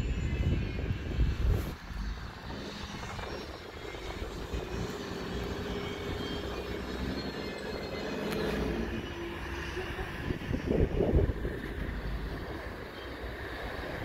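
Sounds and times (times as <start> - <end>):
distant diesel locomotive engine drone: 0.0 - 14.0.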